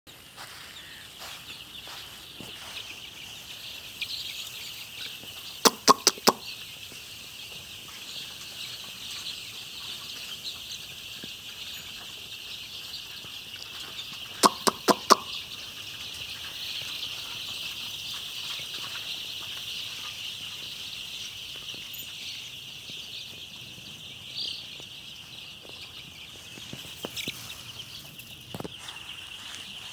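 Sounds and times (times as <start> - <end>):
chickens calling: 0.1 - 29.9.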